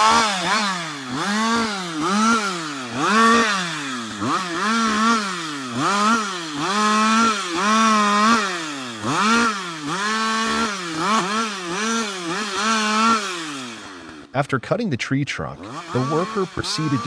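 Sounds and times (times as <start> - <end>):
chainsaw cutting wood: 0.0 - 14.4, 15.6 - 17.0.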